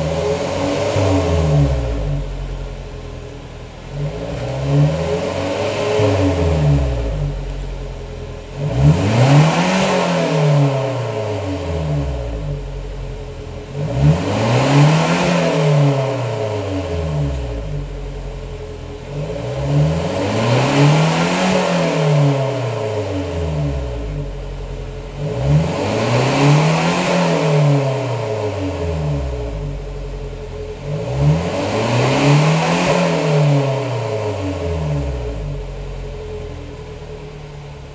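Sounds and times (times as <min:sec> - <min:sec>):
van engine revving: 0:00.0 - 0:37.9.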